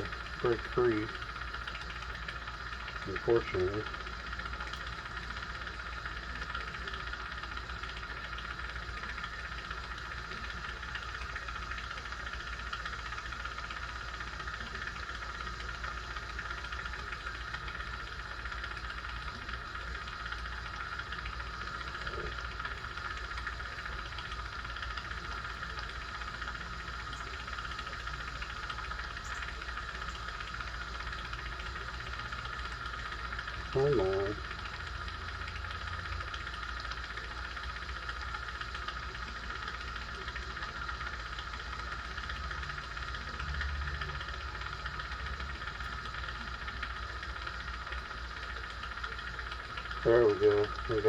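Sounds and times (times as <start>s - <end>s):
low hum: 0.0s - 51.0s
steady hiss: 0.0s - 51.0s.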